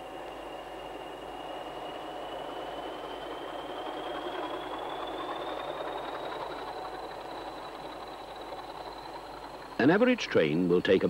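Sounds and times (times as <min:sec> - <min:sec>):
diesel locomotive engine running: 0:00.0 - 0:11.0
faint high whine: 0:00.0 - 0:11.0.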